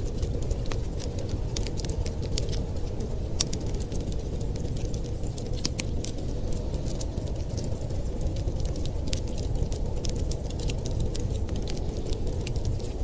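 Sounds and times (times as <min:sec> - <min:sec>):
low fire rumble: 0:00.0 - 0:13.0
wood fire popping: 0:00.0 - 0:13.0.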